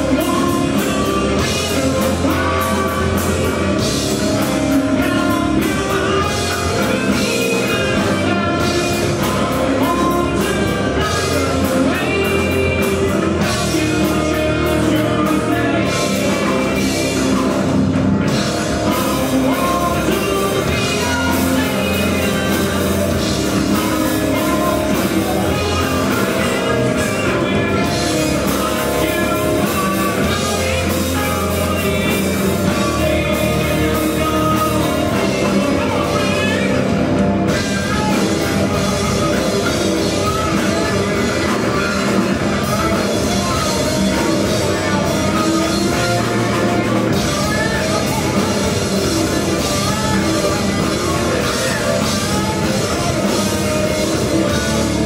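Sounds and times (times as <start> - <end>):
live metal band playing: 0.0 - 55.0.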